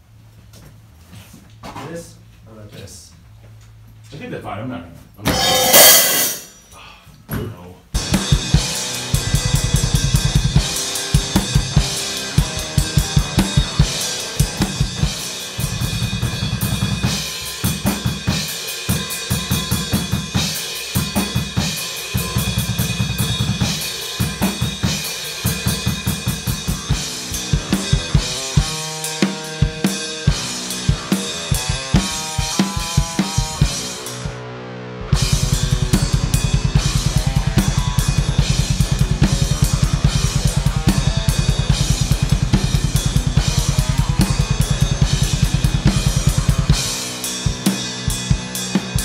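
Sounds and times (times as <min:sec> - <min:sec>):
heavy metal drumming: 0:05.2 - 0:06.6, 0:08.0 - 0:34.4, 0:35.0 - 0:49.0
rapid bass drum strokes: 0:05.2 - 0:06.6, 0:08.0 - 0:34.4, 0:35.0 - 0:49.0.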